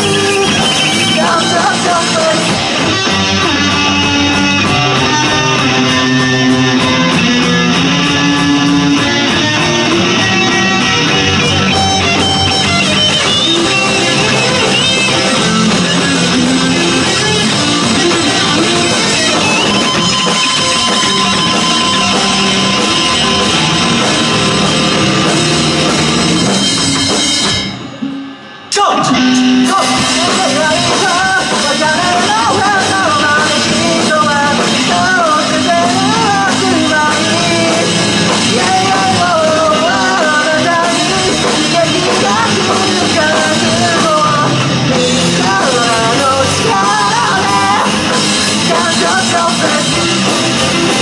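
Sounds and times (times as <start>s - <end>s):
live rock band playing: 0.0s - 51.0s.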